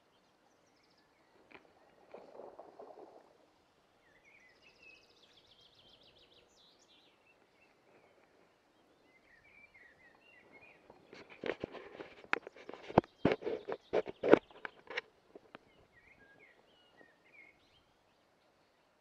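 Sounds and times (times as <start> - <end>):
songbird chirps and trills: 0.0 - 19.0.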